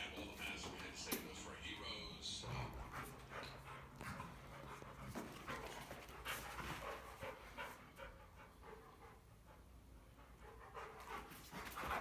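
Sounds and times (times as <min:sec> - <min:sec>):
dogs panting: 0:00.0 - 0:12.0.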